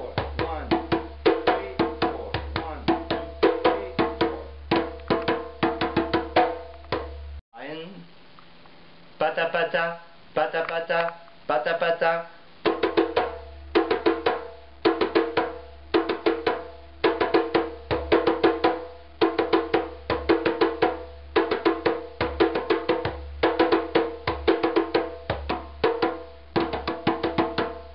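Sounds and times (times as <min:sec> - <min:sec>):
djembe played with hands: 0:00.0 - 0:07.4, 0:12.6 - 0:27.9.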